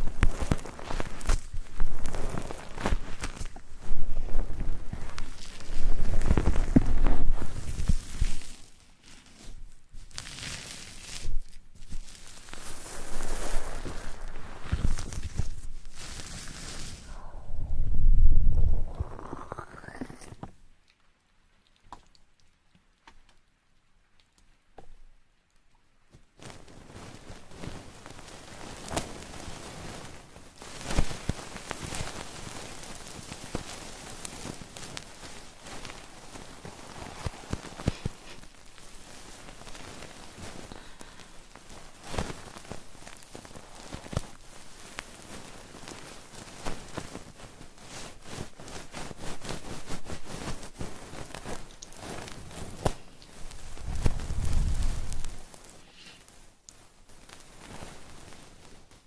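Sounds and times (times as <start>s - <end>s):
close-up crackling and rustling: 0.0s - 59.0s.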